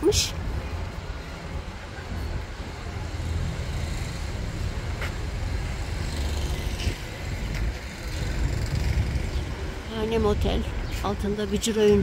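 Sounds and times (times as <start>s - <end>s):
street low rumble: 0.0s - 12.0s.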